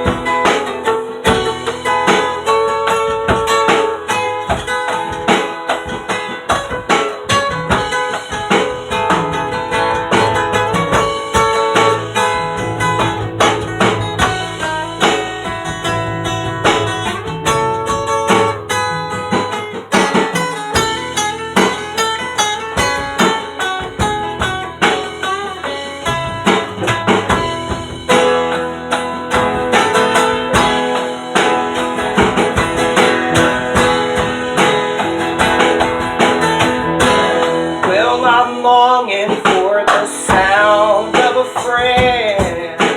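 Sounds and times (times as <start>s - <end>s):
folk rock band playing: 0.0s - 42.9s
guitar: 0.0s - 42.9s.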